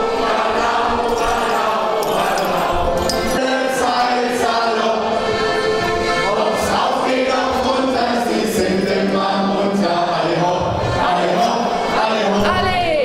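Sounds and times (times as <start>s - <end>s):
crowd singing: 0.0s - 12.9s
accordion: 0.0s - 13.0s.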